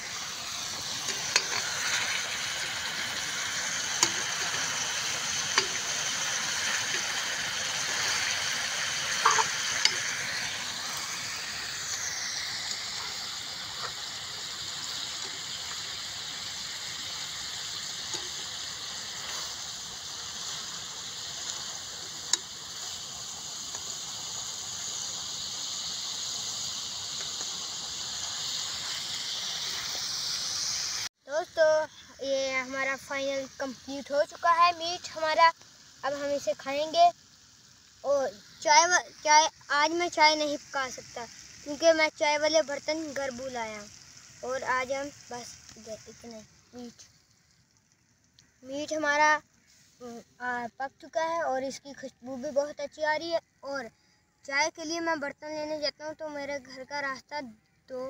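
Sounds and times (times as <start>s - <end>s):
curry sizzling in a frying pan: 0.0s - 58.0s.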